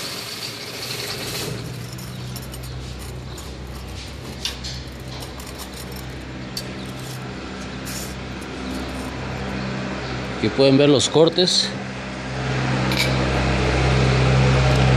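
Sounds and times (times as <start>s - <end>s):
wire cutting machine humming: 0.0s - 14.9s.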